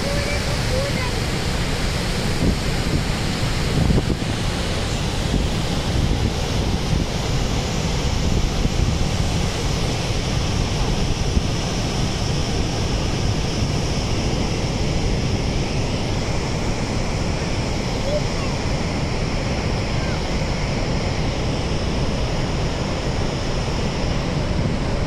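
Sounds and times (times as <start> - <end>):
waterfall rushing: 0.0 - 25.0
wind buffeting microphone: 0.0 - 25.0.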